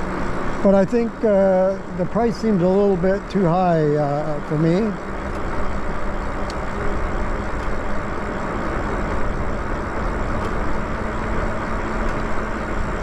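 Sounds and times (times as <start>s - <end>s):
steady low hum: 0.0s - 13.0s
tyres rolling on asphalt: 0.0s - 13.0s.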